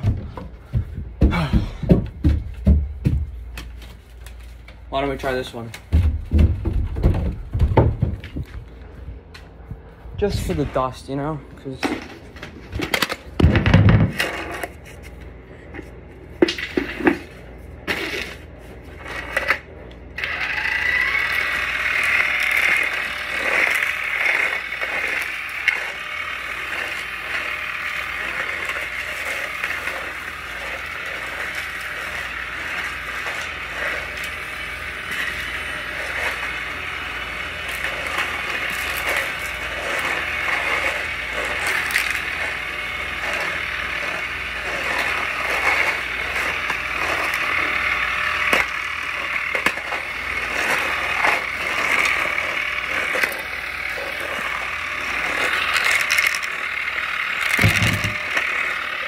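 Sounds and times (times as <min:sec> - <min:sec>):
stick vacuum motor whine: 0:00.0 - 0:59.0.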